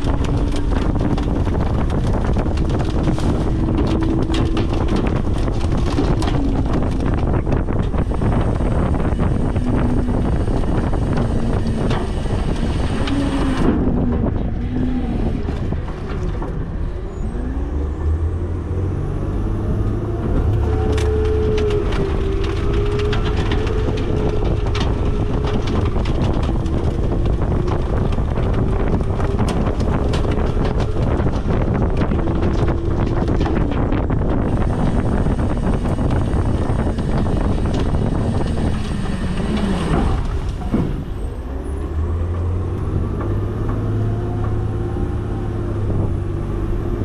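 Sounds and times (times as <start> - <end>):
garbage truck engine revving: 0.0 - 47.0.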